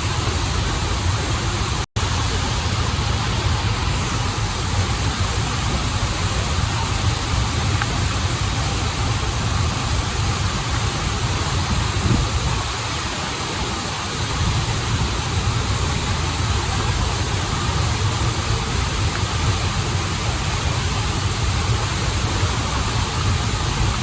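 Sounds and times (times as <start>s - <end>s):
stream and waterfall rushing: 0.0s - 24.0s.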